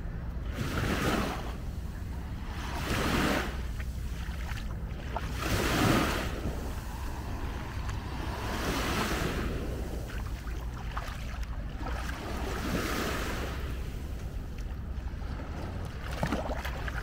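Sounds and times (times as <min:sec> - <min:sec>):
wind rumble on microphone: 0:00.0 - 0:17.0
small waves washing onto sand: 0:00.5 - 0:17.0.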